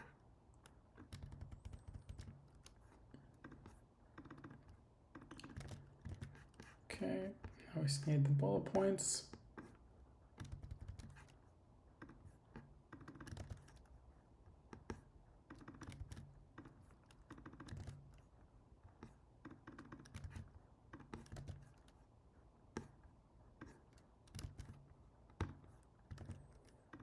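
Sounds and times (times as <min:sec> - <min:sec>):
faint keyboard typing: 0:00.0 - 0:27.0.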